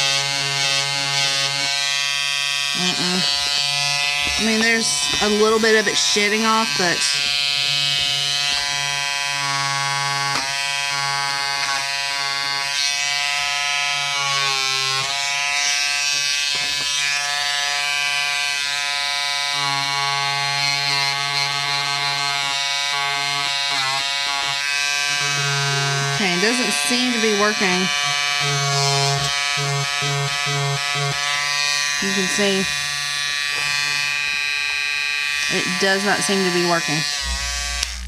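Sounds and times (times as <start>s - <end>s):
electric trimmer buzzing: 0.0s - 38.0s.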